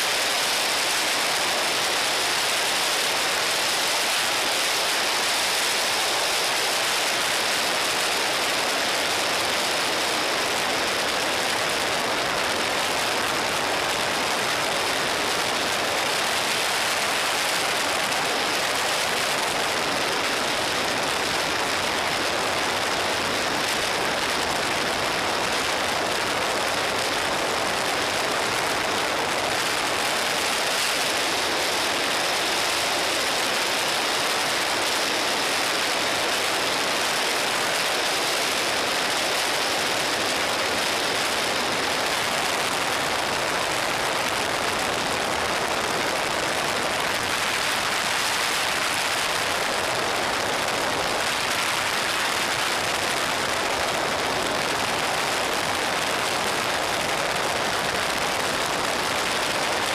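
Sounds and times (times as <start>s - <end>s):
wind rush and road noise: 0.0s - 59.9s.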